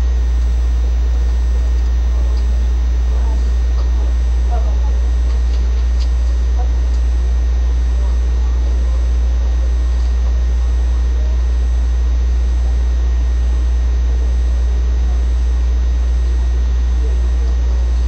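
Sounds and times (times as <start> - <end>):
loud low hum: 0.0 - 18.0.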